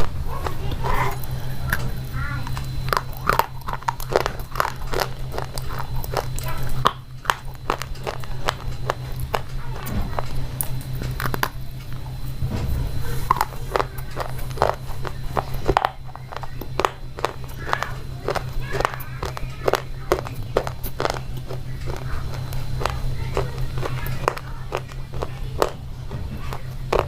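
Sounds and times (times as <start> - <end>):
slate pencils crunching: 0.0 - 12.2, 12.8 - 27.0
steady low hum: 0.0 - 27.0.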